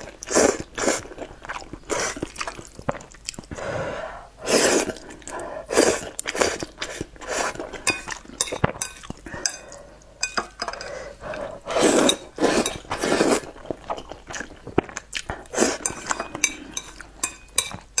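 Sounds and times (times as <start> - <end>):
chewing: 0.0 - 3.6, 4.8 - 18.0
noodles slurping: 0.0 - 3.6, 4.4 - 10.0, 11.0 - 17.4.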